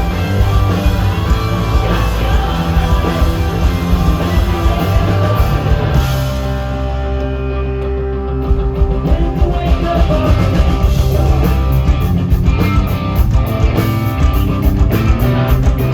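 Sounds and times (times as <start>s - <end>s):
electric guitars: 0.0s - 15.9s.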